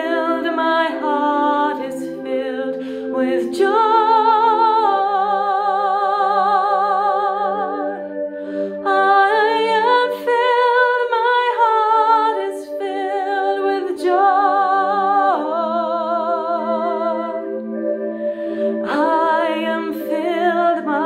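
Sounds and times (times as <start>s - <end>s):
woman singing wordlessly: 0.0s - 8.0s, 8.8s - 17.5s, 18.8s - 21.0s.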